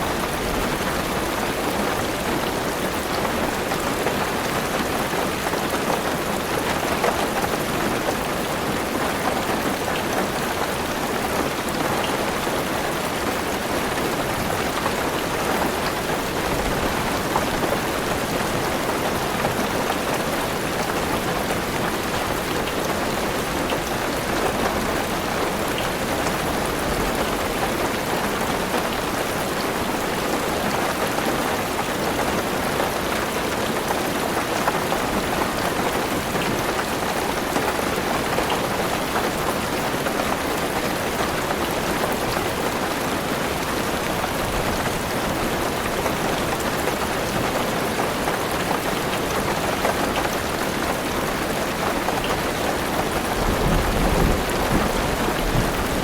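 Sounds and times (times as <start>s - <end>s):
heavy rain on a car roof: 0.0s - 56.0s.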